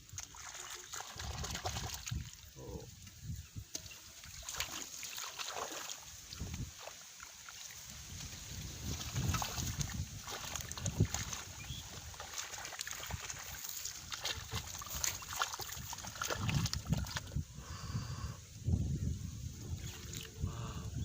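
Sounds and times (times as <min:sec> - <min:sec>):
shallow water sloshing and splashing: 0:00.0 - 0:17.5, 0:19.6 - 0:20.4.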